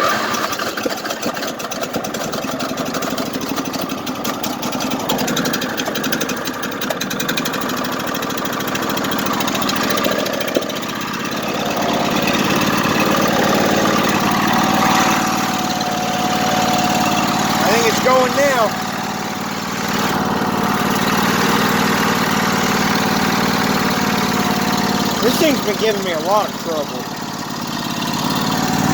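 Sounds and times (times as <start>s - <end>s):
lawn tractor engine running: 0.0s - 28.9s.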